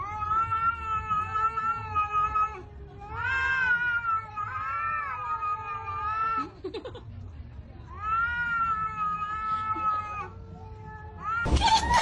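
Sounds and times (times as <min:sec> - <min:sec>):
cats yowling: 0:00.0 - 0:06.6, 0:07.9 - 0:12.0.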